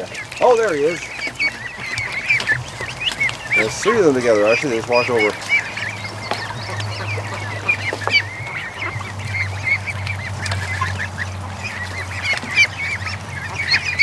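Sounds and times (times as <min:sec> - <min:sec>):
ducklings and goslings peeping: 0:00.0 - 0:14.0.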